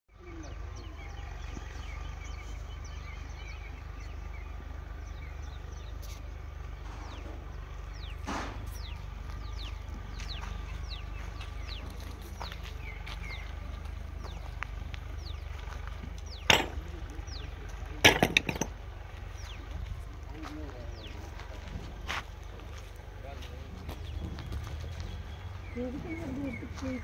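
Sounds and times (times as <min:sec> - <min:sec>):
steady low rumble: 0:01.3 - 0:27.0.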